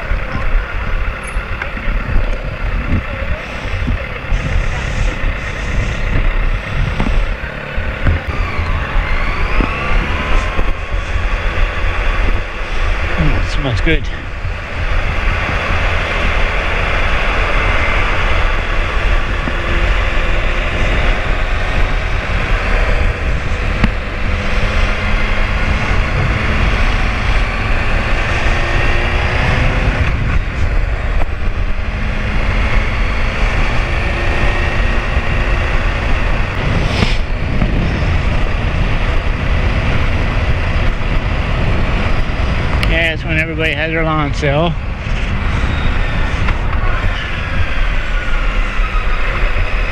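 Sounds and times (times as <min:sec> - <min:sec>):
motorcycle engine running: 0:00.0 - 0:49.9
wind buffeting microphone: 0:00.0 - 0:49.9.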